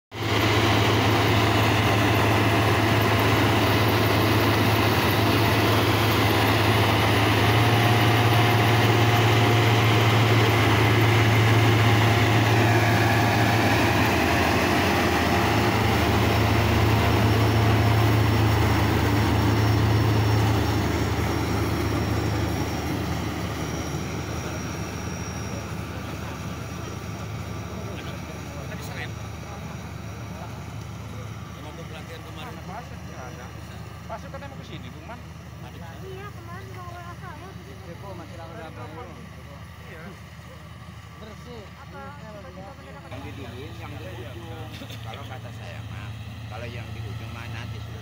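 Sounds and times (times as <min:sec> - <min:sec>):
combine harvester engine running: 0:00.1 - 0:48.0.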